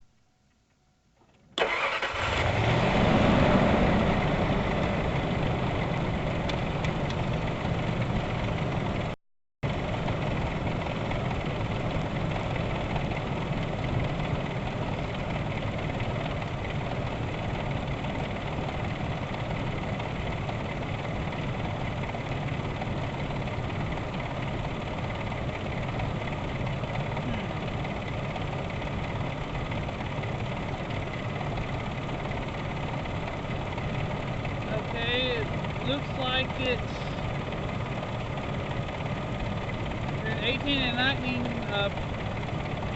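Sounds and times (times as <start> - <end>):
car engine starting and idling: 0.4 - 42.9.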